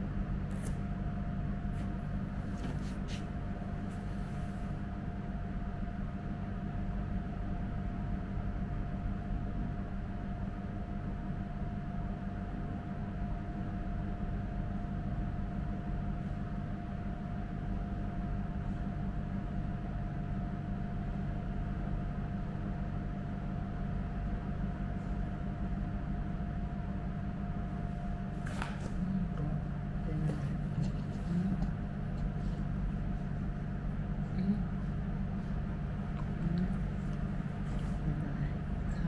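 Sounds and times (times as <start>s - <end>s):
mechanical hum and hiss: 0.0s - 39.0s
thin steady whine: 0.0s - 39.0s.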